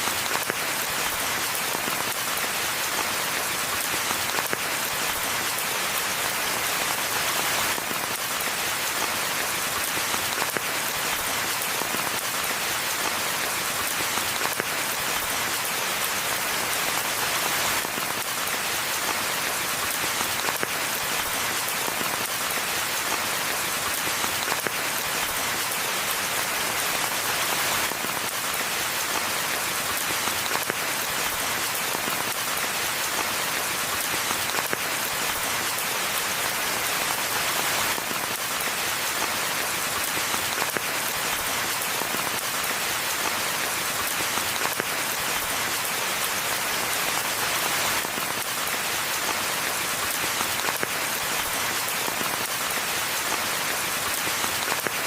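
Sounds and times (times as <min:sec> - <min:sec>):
raindrops pattering: 0:00.0 - 0:55.0.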